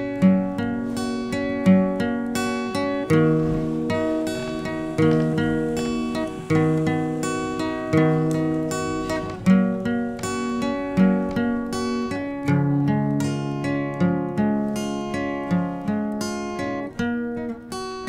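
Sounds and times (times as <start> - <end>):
guitar chords ringing: 0.0 - 18.0.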